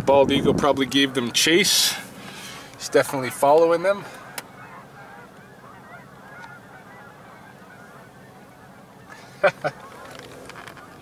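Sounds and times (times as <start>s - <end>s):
flock of geese honking: 0.7s - 11.0s.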